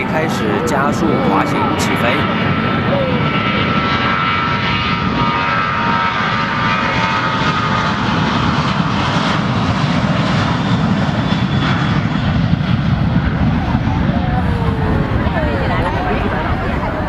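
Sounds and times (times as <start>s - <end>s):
jet engines at takeoff power: 0.0s - 17.0s
thin engine whine: 0.0s - 17.0s.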